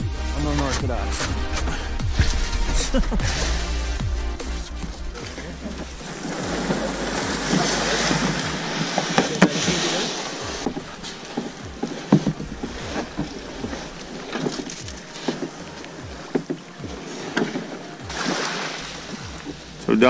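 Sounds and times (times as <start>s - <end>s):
knocks and scrapes on kayak hull: 0.0s - 19.8s
hiss of wind and water: 0.0s - 20.0s.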